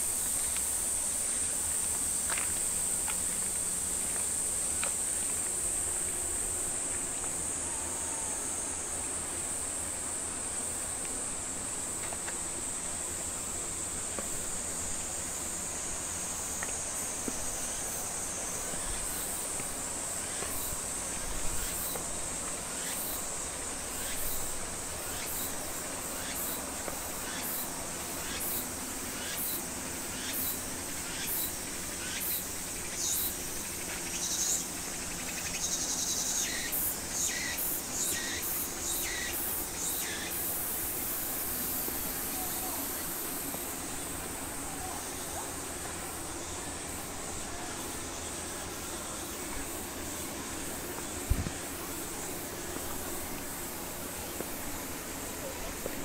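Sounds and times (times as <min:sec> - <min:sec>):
insect high trill: 0:00.0 - 0:56.0.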